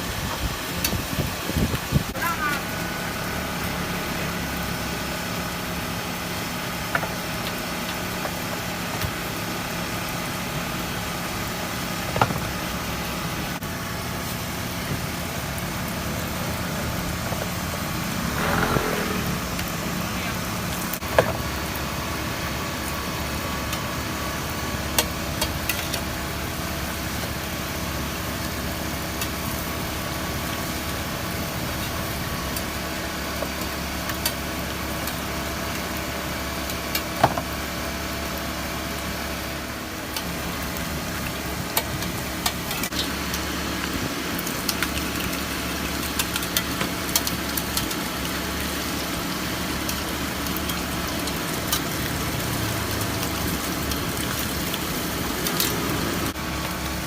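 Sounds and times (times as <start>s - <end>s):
crepe sizzling on griddle: 0.0s - 57.0s
mechanical hum: 0.0s - 57.0s.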